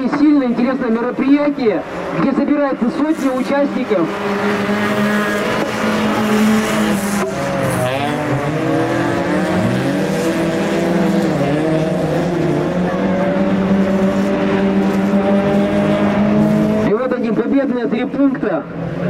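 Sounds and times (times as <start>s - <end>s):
racing car engines revving: 0.0s - 19.0s.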